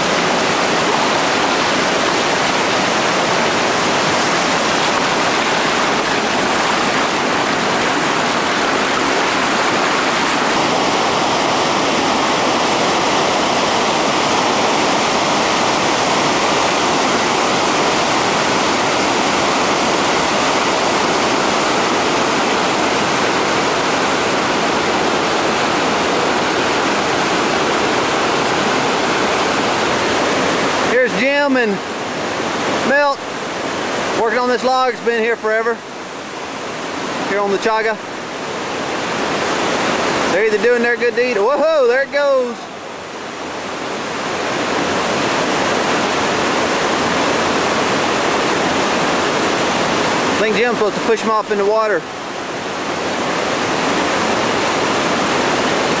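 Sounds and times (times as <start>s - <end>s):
river rapids roaring: 0.0s - 56.0s.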